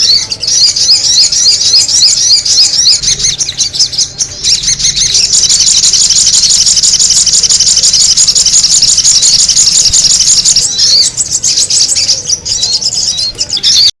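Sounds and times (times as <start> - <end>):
high-pitched bird chattering: 0.0 - 13.9.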